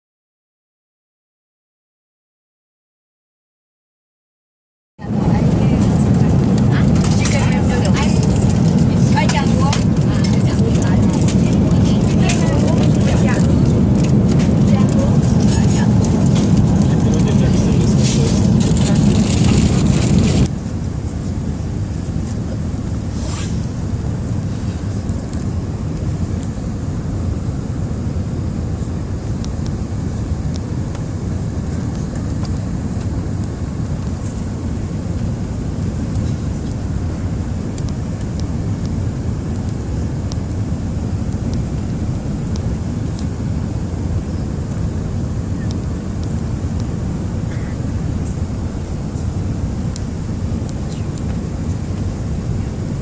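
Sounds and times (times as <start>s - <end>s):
airliner cabin engine rumble: 5.0s - 53.0s.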